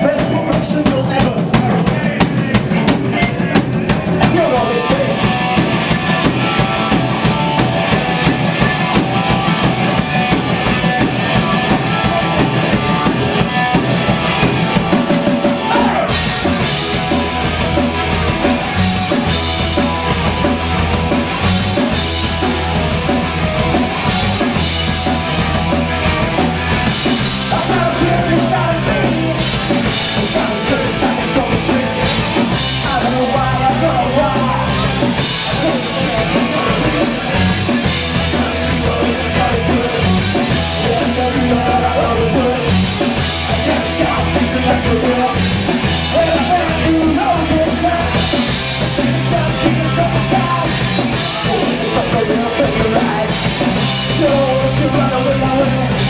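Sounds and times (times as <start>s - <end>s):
bass guitar: 0.0s - 56.0s
electric guitars: 0.0s - 56.0s
fast drum beats: 0.0s - 56.0s.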